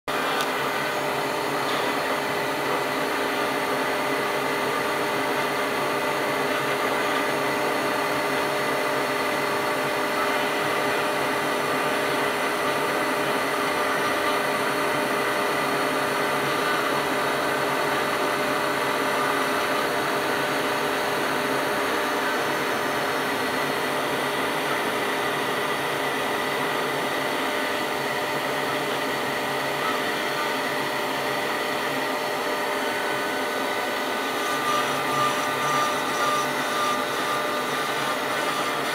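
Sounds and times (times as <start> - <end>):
router spindle cutting wood: 0.1 - 38.9.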